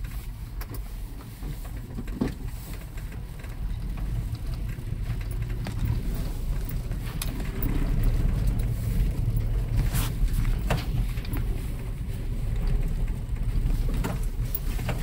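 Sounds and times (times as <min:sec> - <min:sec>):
car driving on dirt track: 0:00.0 - 0:15.0.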